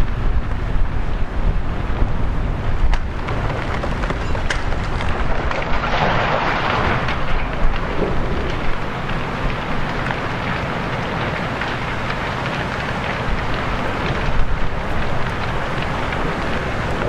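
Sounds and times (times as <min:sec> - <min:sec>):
wind on microphone: 0:00.0 - 0:10.4, 0:13.2 - 0:17.0
fire crackling and hissing: 0:00.0 - 0:17.0
low fire rumble: 0:00.0 - 0:17.0.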